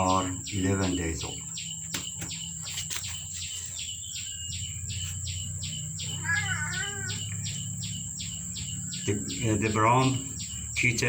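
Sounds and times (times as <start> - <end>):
high chirping: 0.0 - 11.0.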